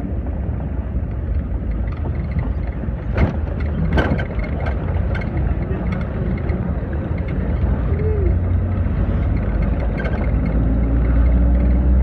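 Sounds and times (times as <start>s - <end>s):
vehicle driving on road: 0.0s - 12.0s.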